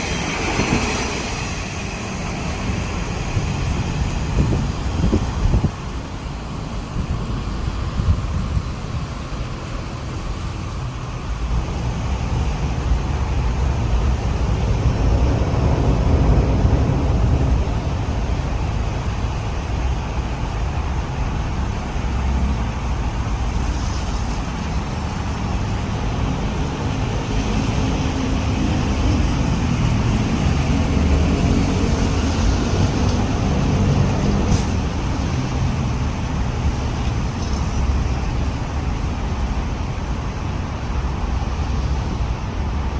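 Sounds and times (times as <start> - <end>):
diesel railcar running: 0.0 - 42.9.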